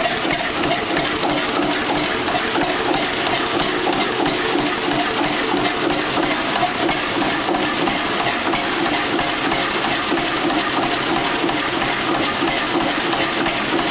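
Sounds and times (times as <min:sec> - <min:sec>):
stationary diesel engine running: 0:00.0 - 0:13.9.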